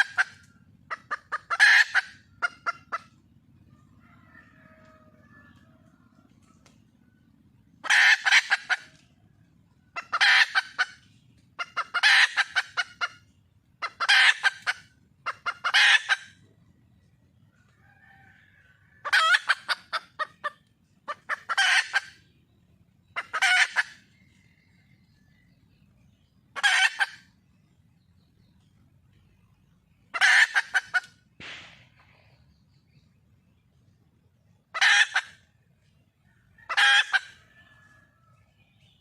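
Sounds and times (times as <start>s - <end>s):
junglefowl hen cackling calls: 0.0s - 22.4s, 23.0s - 25.5s, 26.2s - 27.7s, 29.2s - 33.0s, 34.6s - 39.0s.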